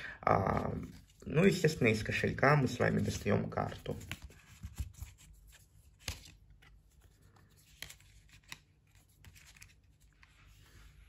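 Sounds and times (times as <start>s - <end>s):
paper rustling: 0.5s - 11.0s.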